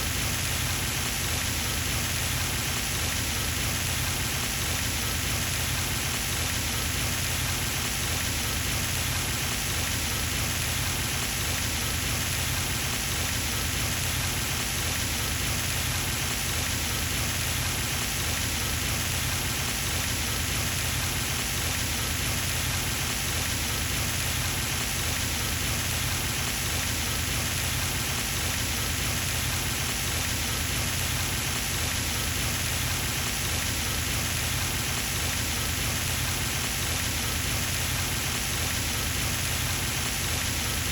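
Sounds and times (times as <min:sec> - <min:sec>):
fountain splashing on water: 0:00.1 - 0:40.9.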